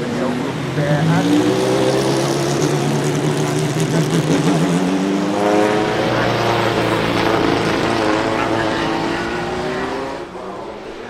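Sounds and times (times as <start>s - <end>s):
race car engine running: 0.0s - 11.0s.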